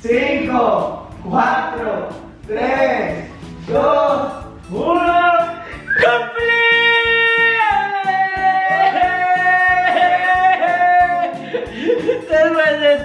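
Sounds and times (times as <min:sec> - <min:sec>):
plucked guitar with steady beat: 0:00.7 - 0:06.4, 0:07.1 - 0:13.0.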